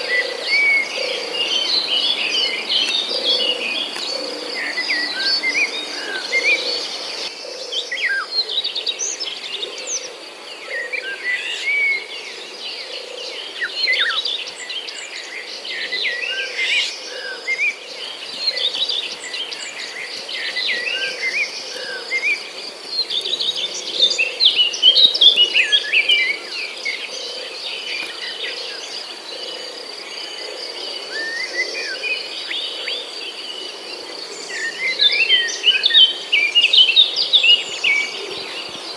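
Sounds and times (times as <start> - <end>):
birds chirping and singing: 0.0 - 38.9
high insect drone: 0.0 - 38.9
pulsing insect chorus: 0.0 - 38.9.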